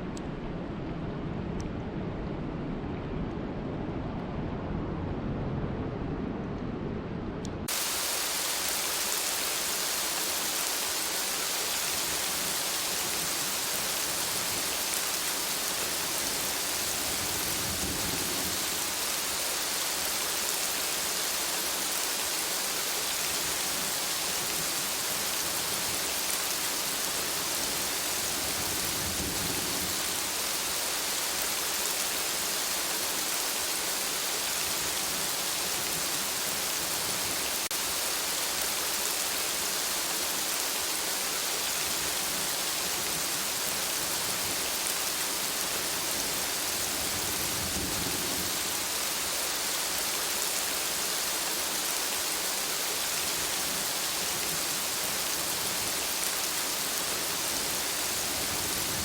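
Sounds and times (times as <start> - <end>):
low rumbling storm noise: 0.0 - 40.8, 41.4 - 51.3, 53.2 - 59.0
heavy rain hissing: 7.6 - 59.0.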